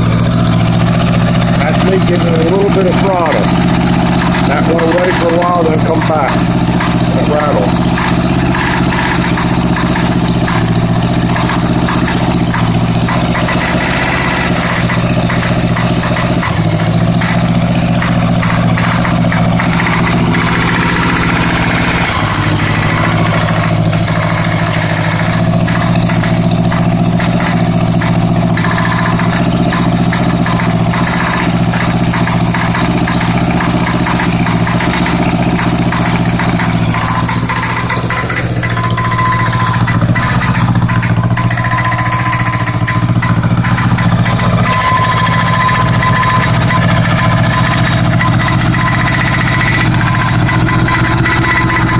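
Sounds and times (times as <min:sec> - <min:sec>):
engine rattle: 0:00.0 - 0:51.9
motorcycle engine idling: 0:00.0 - 0:51.9.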